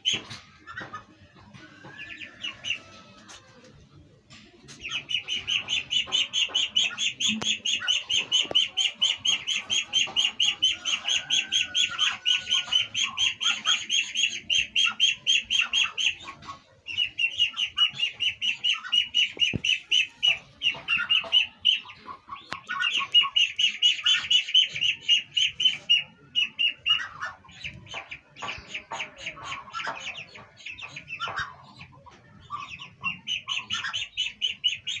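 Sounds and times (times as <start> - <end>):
ducklings peeping: 0.0 - 35.0.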